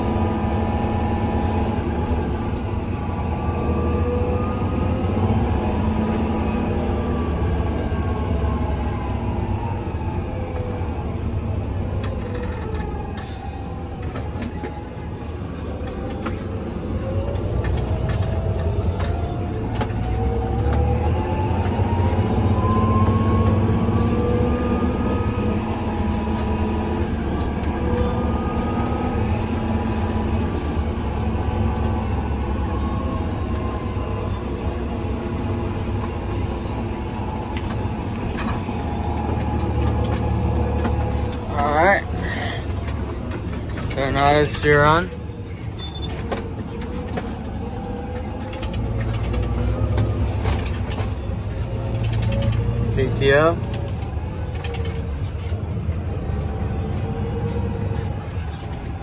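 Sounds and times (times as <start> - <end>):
tractor engine running: 0.0 - 59.0
rattles and clunks: 11.7 - 59.0.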